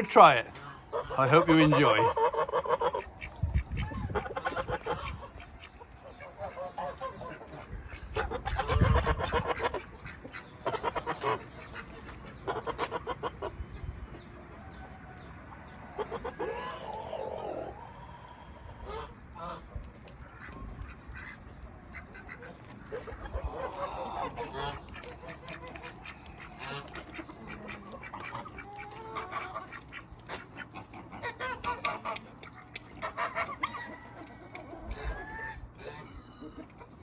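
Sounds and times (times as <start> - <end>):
poultry calling: 0.0 - 13.8, 14.6 - 37.0.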